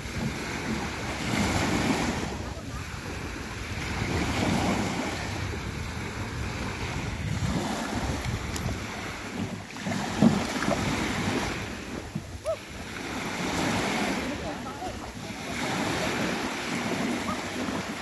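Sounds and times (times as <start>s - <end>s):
small waves on sandy shore: 0.0s - 18.0s
wind buffeting microphone: 0.0s - 18.0s.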